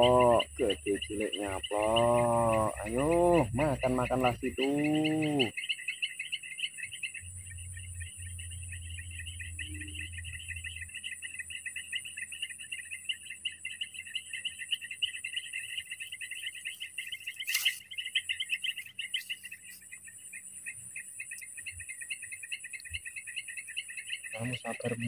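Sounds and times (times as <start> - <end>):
high-pitched insect whine: 0.0 - 25.0
insects chirring: 0.0 - 25.0.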